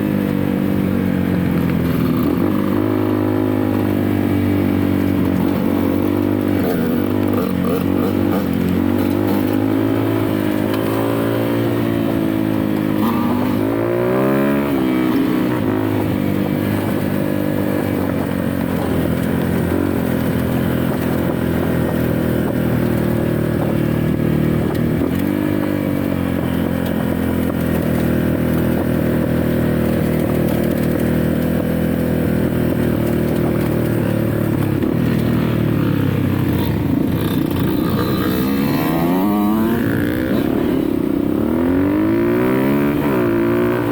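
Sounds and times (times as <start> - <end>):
dirt bike engine revving: 0.9 - 43.9.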